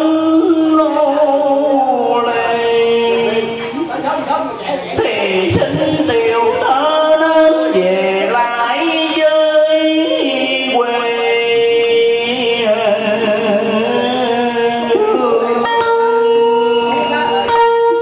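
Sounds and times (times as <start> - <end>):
man singing sliding melody: 0.0 - 18.0
plucked string accompaniment: 0.0 - 18.0.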